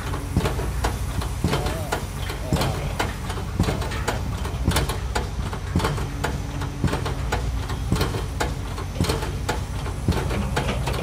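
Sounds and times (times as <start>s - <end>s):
diesel machinery droning: 0.0s - 11.0s
sharp knocks: 1.4s - 11.0s.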